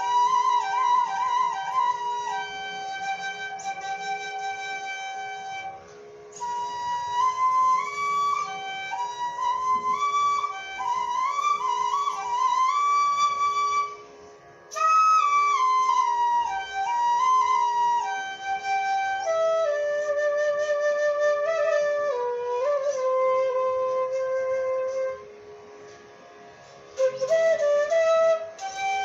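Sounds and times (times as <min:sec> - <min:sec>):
flute melody: 0:00.0 - 0:25.4, 0:27.0 - 0:29.0.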